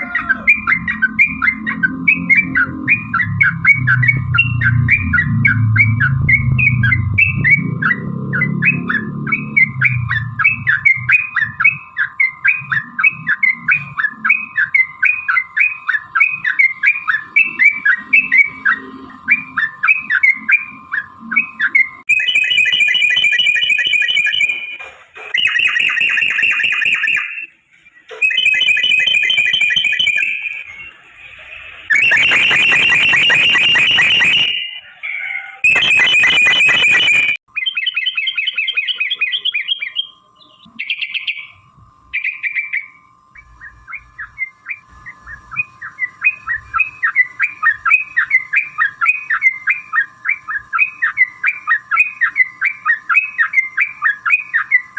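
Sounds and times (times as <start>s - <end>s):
bulbuls singing: 0.0s - 54.9s.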